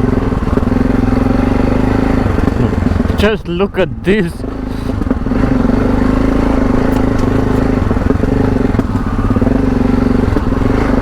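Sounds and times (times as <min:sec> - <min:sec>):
knocks and clatter from bike: 0:00.0 - 0:03.3, 0:04.4 - 0:11.0
motorcycle engine running: 0:00.0 - 0:11.0.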